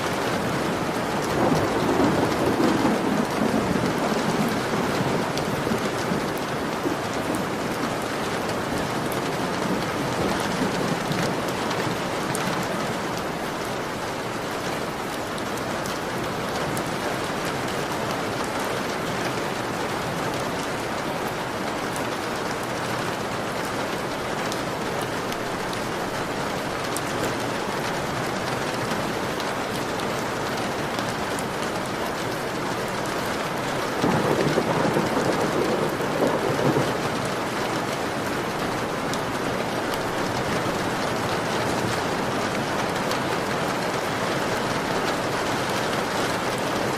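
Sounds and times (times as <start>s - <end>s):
heavy rain on a window: 0.0s - 46.9s.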